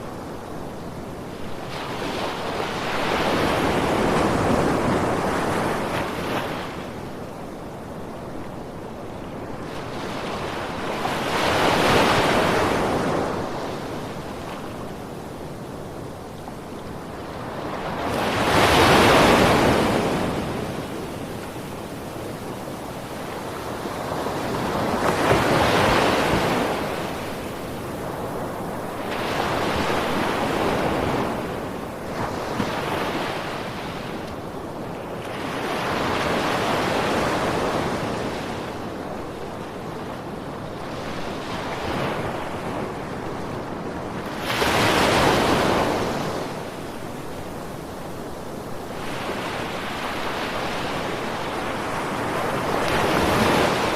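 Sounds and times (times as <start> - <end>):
ocean waves breaking on shore: 0.0 - 53.9.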